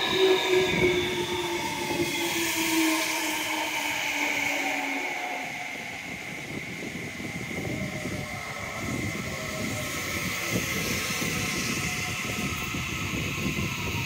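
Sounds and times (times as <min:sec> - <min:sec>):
electric train motor whine: 0:00.0 - 0:14.0.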